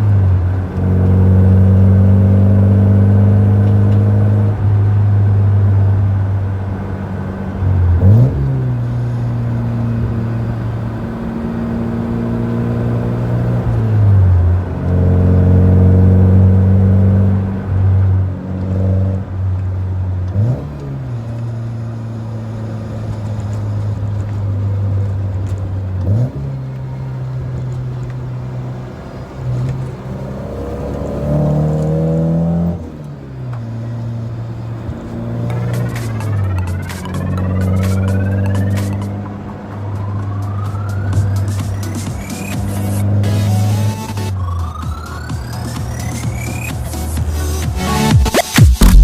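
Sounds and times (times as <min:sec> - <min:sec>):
car engine heard from cabin: 0:00.0 - 0:49.0.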